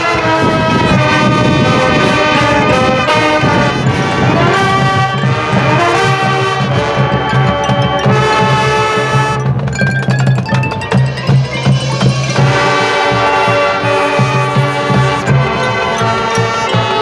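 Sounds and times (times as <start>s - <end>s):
brass chords: 0.0s - 9.7s, 10.6s - 17.0s
drums: 0.0s - 17.0s.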